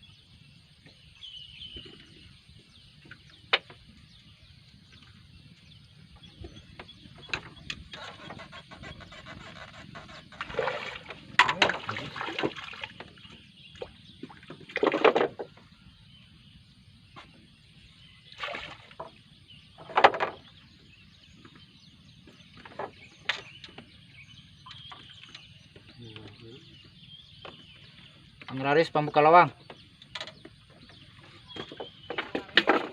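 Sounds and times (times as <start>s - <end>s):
water splashing and sloshing: 0.7s - 28.8s, 29.5s - 32.9s.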